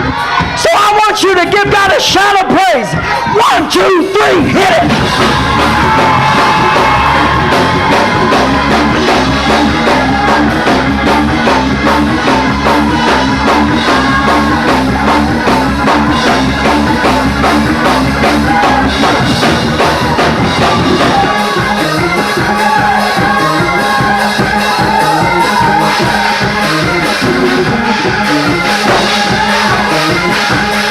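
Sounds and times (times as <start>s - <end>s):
band playing fast loud music: 0.0s - 30.9s
bass line runs: 4.3s - 30.9s.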